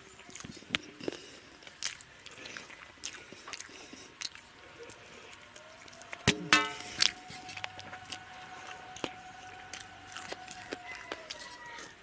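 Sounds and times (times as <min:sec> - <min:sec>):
man chewing wetly: 0:00.0 - 0:12.0
lip smacks: 0:00.2 - 0:12.0.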